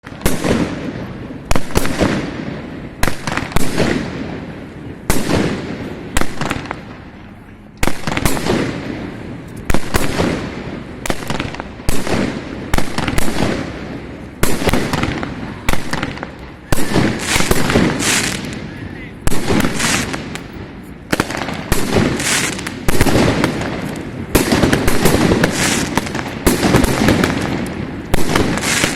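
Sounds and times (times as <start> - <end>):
fireworks bursting with bangs: 0.0 - 28.9.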